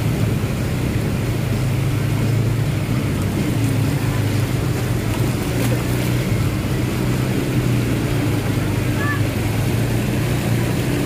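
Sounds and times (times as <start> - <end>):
vehicle engine at low revs: 0.0 - 11.0.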